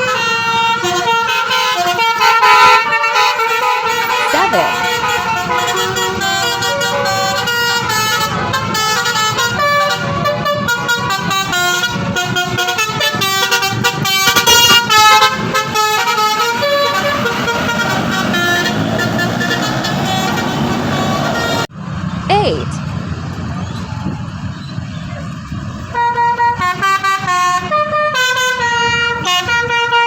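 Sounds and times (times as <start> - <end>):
musical air horn melody: 0.0 - 21.7, 25.9 - 30.0
bus engine: 0.0 - 30.0.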